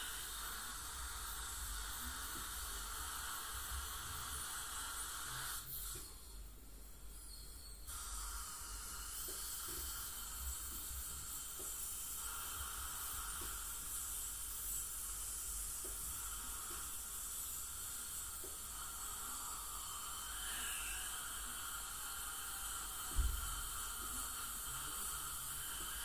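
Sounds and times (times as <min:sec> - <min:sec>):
dental scaler water spray hiss: 0:00.0 - 0:26.0.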